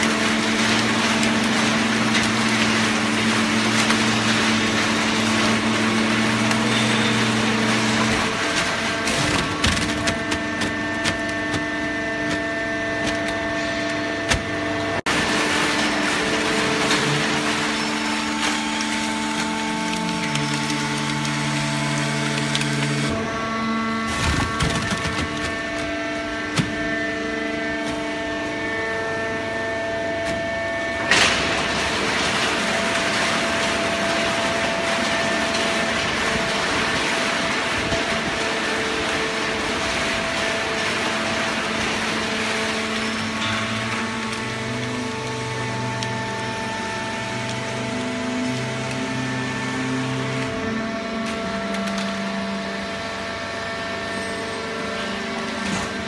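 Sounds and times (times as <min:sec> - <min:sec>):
baling press running: 0:00.0 - 0:56.0.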